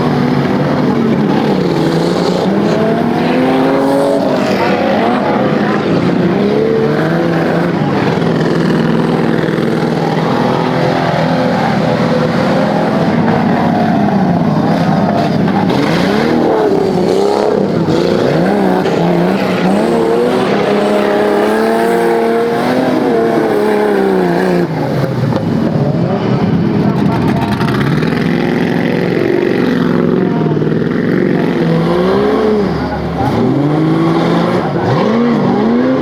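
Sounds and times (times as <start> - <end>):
off-road vehicle engine revving: 0.0 - 36.0.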